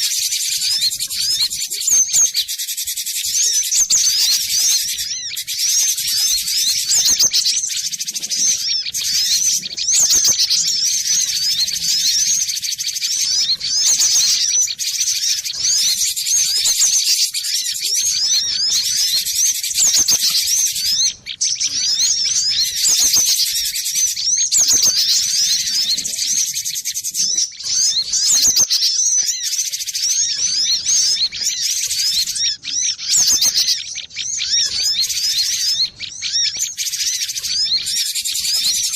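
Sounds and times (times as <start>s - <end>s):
bird singing high chirps: 0.0s - 38.9s.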